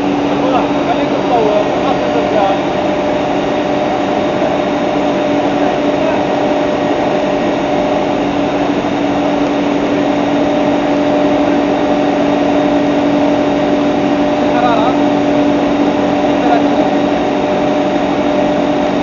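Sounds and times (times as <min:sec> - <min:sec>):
mill machine humming: 0:00.0 - 0:19.0.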